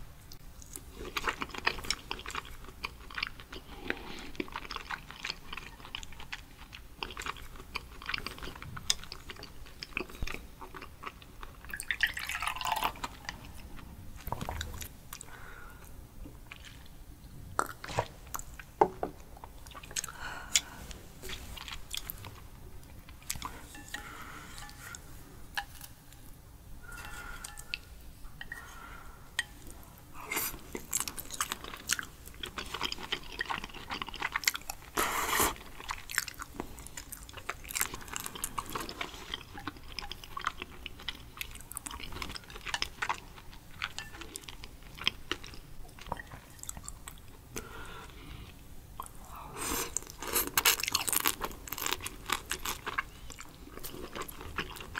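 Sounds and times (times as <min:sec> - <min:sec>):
wet chewing and swallowing: 0:00.3 - 0:17.0, 0:17.6 - 0:26.0, 0:26.8 - 0:54.9.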